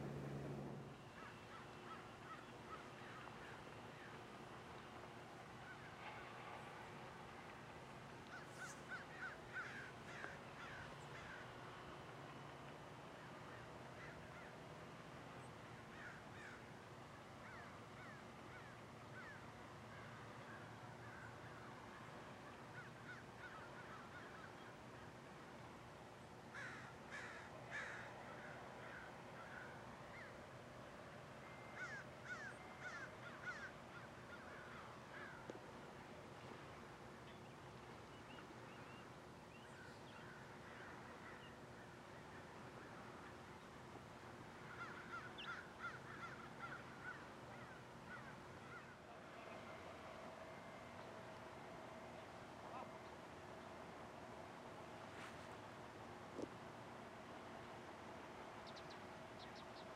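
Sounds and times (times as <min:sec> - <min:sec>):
faint background hum: 0:00.0 - 0:59.9.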